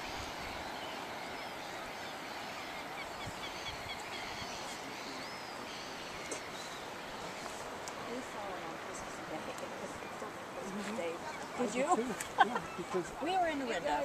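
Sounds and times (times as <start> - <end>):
birds chirping: 0.0 - 14.0
steady background hiss: 0.0 - 14.0.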